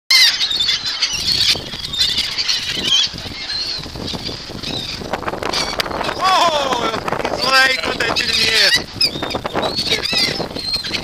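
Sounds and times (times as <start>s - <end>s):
gulls calling: 0.1s - 11.0s.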